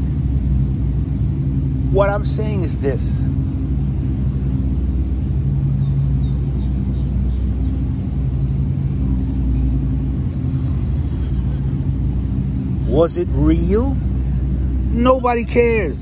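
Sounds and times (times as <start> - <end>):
machine droning hum: 0.0 - 16.0.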